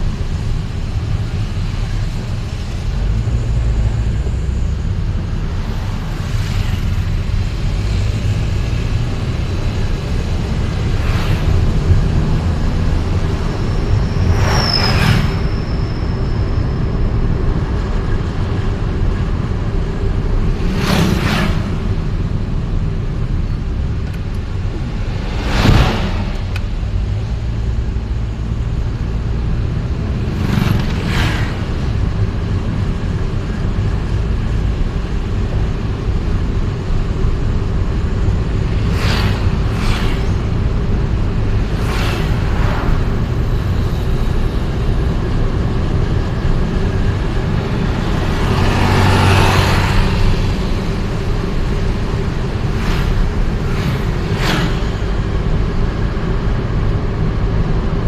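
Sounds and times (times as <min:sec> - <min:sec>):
road and engine rumble: 0:00.0 - 0:58.0
vehicles whooshing past: 0:00.0 - 0:58.0.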